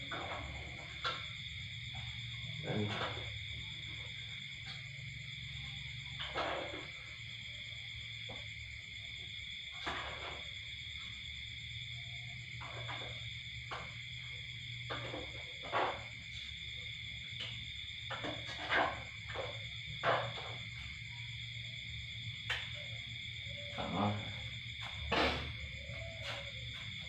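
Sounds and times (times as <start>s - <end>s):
night insects chirring: 0.0s - 27.0s.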